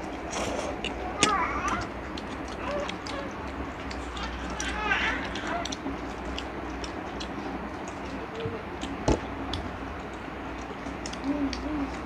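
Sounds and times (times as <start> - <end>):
people chewing: 0.0 - 12.0
steady low hum: 0.0 - 12.0.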